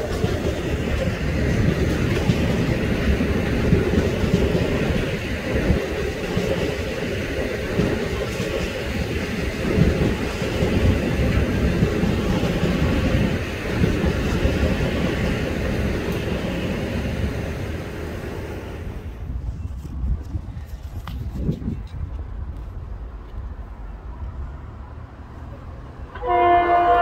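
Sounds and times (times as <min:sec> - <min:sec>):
train rumbling past: 0:00.0 - 0:27.0.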